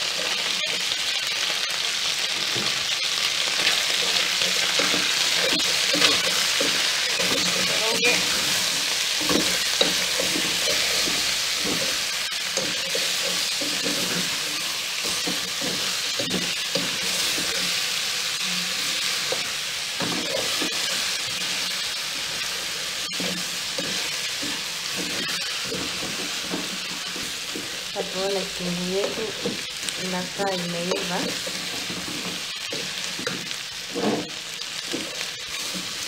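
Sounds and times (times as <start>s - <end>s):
chicken and onions sizzling: 0.0s - 36.0s
wooden spoon scraping pot: 2.4s - 21.7s, 23.1s - 36.0s.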